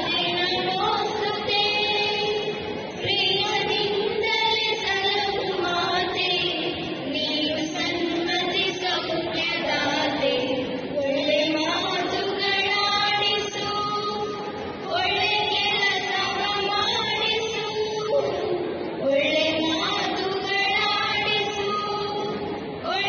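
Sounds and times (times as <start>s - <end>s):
group of women singing: 0.0s - 23.0s.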